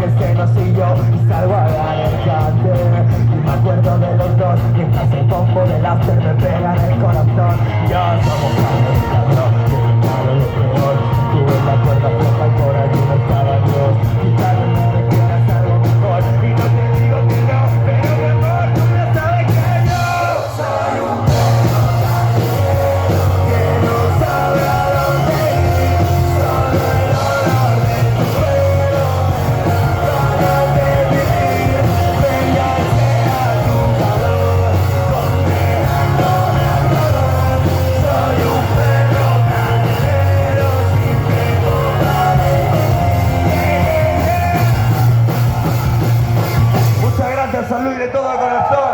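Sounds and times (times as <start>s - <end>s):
rock band playing: 0.0s - 48.2s
person singing: 0.0s - 48.9s.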